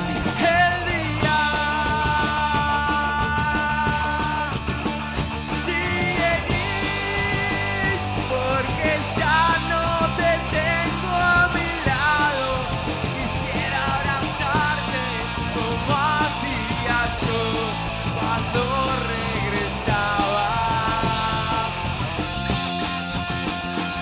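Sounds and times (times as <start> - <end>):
person singing: 0.0 - 4.8, 5.4 - 24.0
electric guitars: 0.0 - 24.0.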